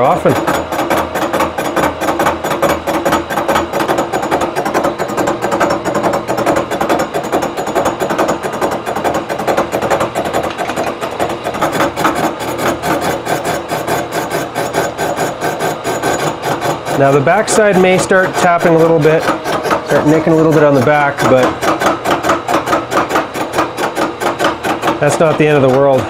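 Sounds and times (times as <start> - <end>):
milling cutter rasping on metal: 0.0 - 26.0.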